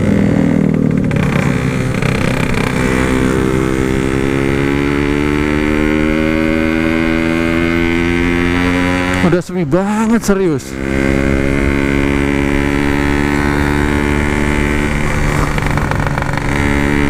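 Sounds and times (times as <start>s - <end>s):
two-stroke motorcycle engine running: 0.0s - 17.0s.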